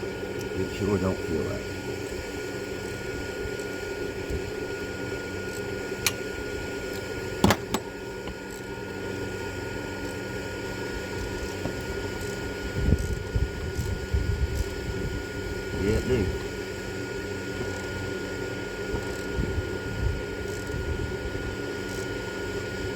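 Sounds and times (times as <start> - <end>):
mechanical hum: 0.0 - 22.9.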